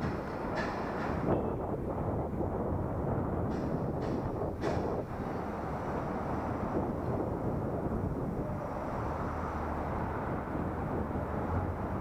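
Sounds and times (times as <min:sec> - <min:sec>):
road noise: 0:00.0 - 0:12.0
wind rush on microphone: 0:00.0 - 0:12.0.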